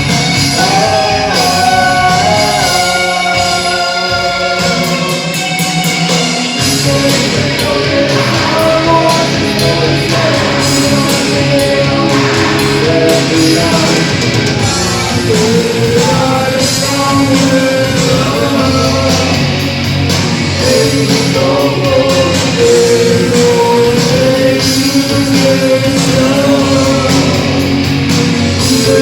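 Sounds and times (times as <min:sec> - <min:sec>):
live rock band: 0:00.0 - 0:29.0
person singing: 0:00.0 - 0:29.0.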